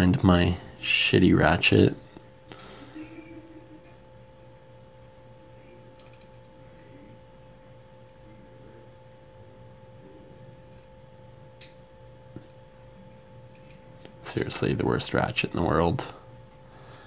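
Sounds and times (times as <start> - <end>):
faint two-tone hum: 0.0 - 17.0.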